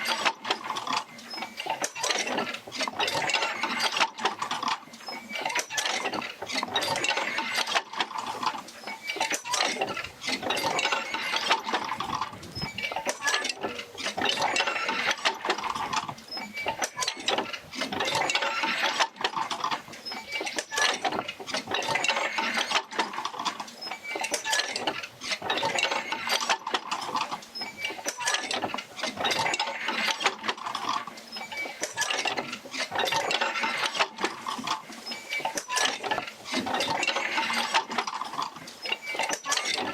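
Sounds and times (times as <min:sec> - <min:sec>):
mechanical clicking and clanking: 0:00.0 - 0:39.9.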